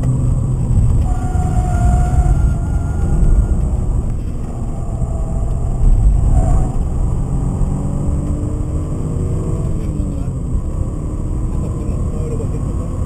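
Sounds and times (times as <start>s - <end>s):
car engine revving: 0.0s - 13.0s
road and wind noise: 0.0s - 13.0s.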